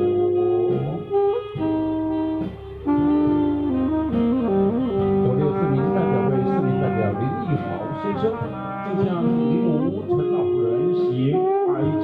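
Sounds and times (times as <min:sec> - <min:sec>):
saxophone playing: 0:00.0 - 0:12.0
trumpet playing: 0:00.0 - 0:12.0.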